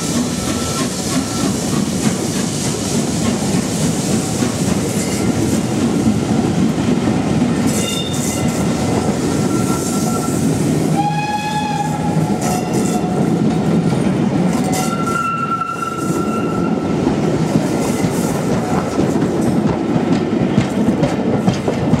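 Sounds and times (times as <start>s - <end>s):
train coaches rumbling past: 0.0s - 22.0s.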